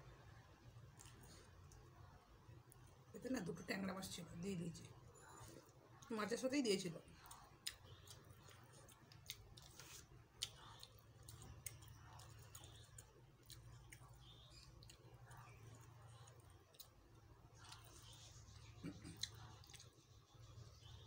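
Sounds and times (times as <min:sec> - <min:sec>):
quiet chewing: 0:00.6 - 0:03.2, 0:04.9 - 0:06.1, 0:07.1 - 0:21.0.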